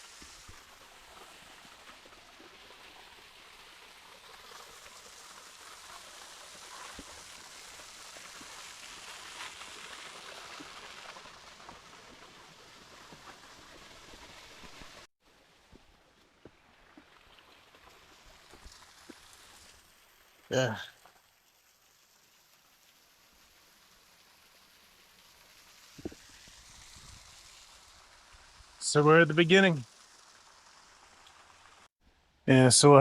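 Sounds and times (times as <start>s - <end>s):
running water rushing: 0.0s - 31.9s.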